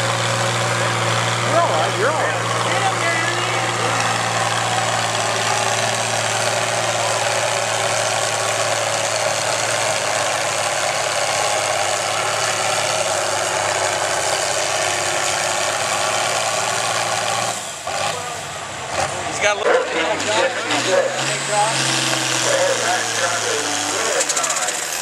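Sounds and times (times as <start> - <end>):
tractor diesel engine running hard: 0.0 - 25.0.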